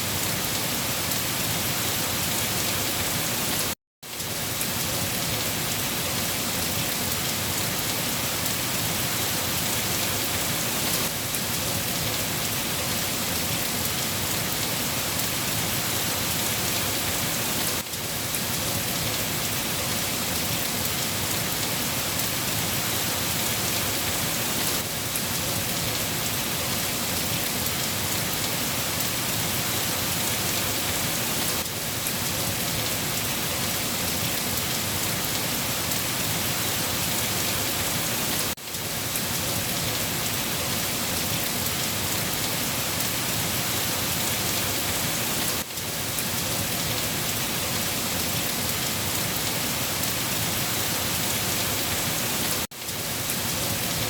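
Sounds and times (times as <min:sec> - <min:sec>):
steady dense rainfall: 0:00.0 - 0:54.0.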